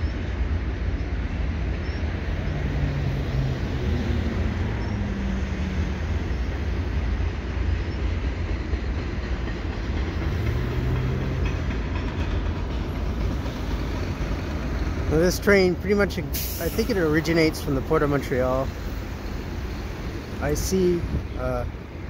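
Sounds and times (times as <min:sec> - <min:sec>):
freight train wheels rumbling on rail: 0:00.0 - 0:22.0.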